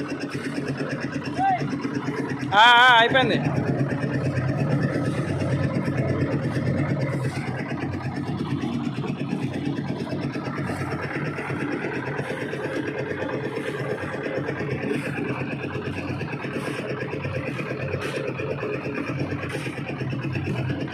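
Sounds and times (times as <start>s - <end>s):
engine running steadily: 0.0s - 20.9s.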